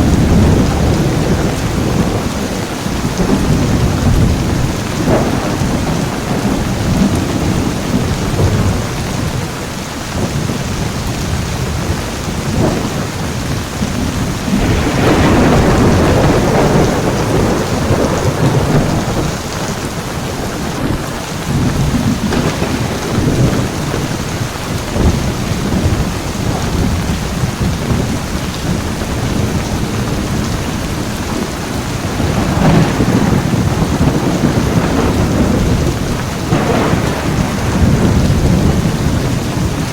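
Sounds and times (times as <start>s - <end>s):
heavy rain: 0.0s - 39.9s
rumbling thunder: 0.0s - 39.9s.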